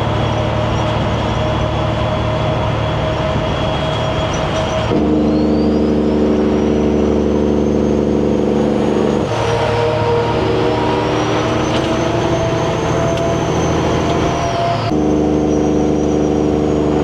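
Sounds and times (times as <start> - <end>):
turbo whistle: 0.0 - 16.8
truck diesel engine pulling hard: 0.0 - 17.0.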